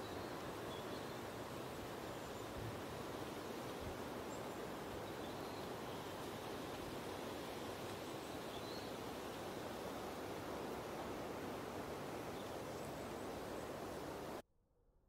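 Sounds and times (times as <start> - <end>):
outdoor background rush: 0.0 - 14.4.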